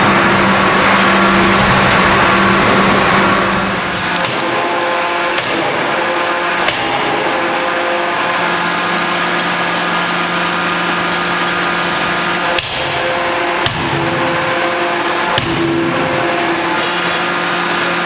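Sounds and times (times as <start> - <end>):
forging hammer blows: 0.0 - 18.0
machine hum: 0.0 - 18.0.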